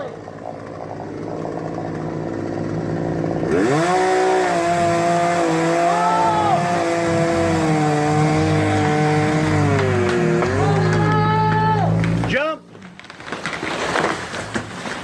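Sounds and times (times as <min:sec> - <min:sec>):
chainsaw engine revving: 0:00.0 - 0:12.4.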